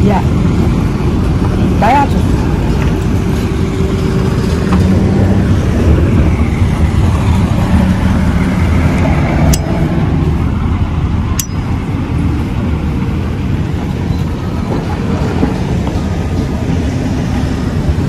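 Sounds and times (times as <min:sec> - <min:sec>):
low rumble of street traffic: 0:00.0 - 0:18.0.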